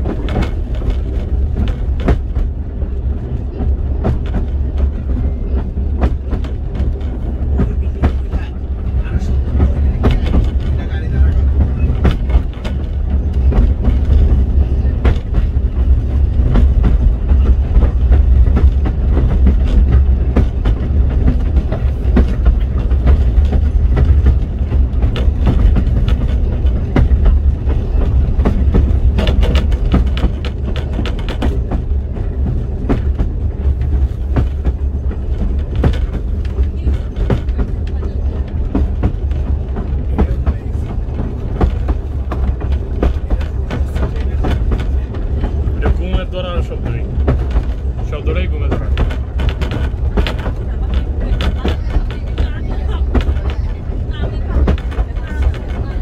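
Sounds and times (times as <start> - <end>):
train rumbling: 0.0 - 56.0
wheels clattering over rail joints: 0.0 - 56.0.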